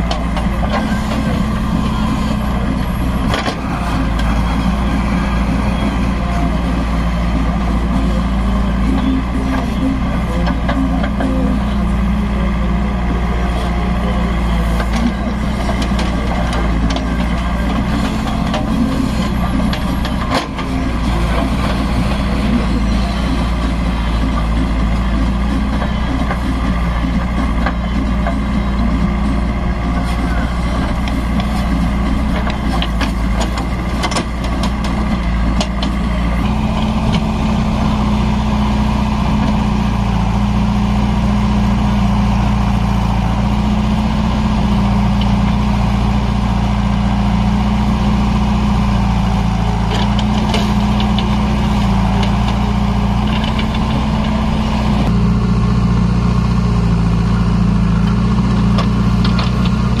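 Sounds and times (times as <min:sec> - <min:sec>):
diesel engines running: 0:00.0 - 1:00.0.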